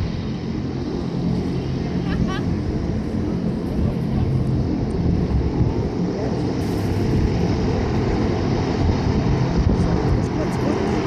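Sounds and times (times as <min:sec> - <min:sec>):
propeller engines droning: 0:00.0 - 0:11.0.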